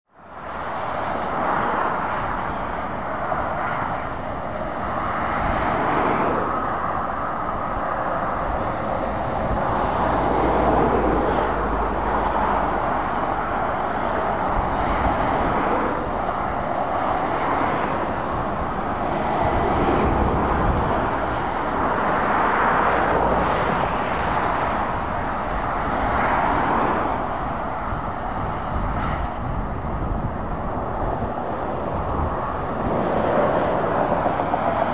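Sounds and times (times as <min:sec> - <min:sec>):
road traffic rumble: 0:00.1 - 0:34.9.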